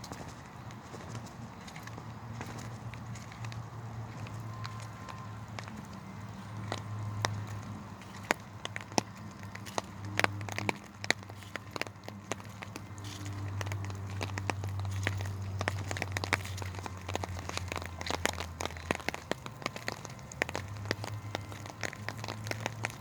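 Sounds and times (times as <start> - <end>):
dry twigs and leaves crackling: 0.0 - 23.0.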